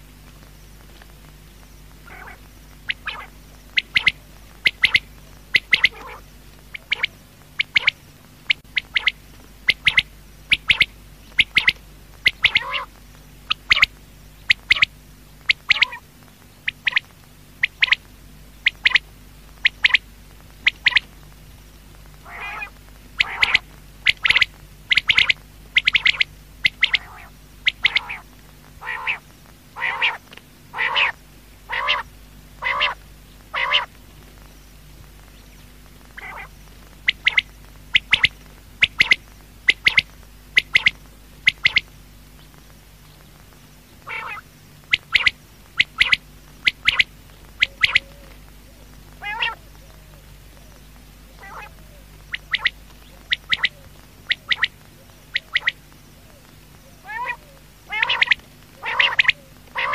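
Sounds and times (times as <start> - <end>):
lower buzzy bird calls: 0.0 - 59.9
quail calling: 2.0 - 20.0, 20.6 - 21.1, 22.2 - 34.0, 35.4 - 42.6, 44.0 - 59.9.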